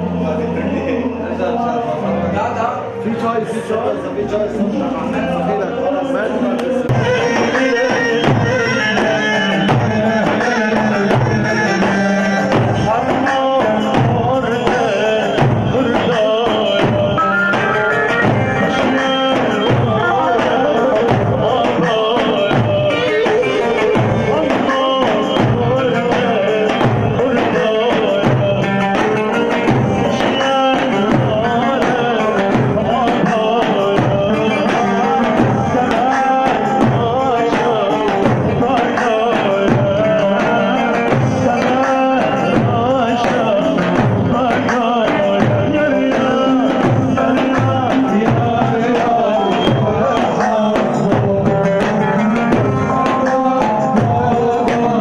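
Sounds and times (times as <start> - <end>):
wedding music: 0.0 - 55.0
steady drum beat: 6.0 - 55.0.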